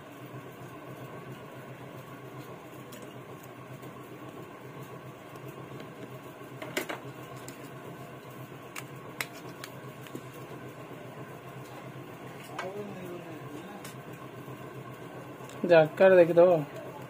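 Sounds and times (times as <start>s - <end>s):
fan-like hum: 0.0s - 17.0s.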